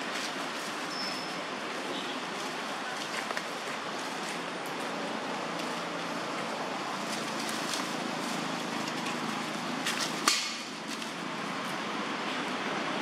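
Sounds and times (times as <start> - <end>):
dry leaves rustling: 0.0 - 11.9.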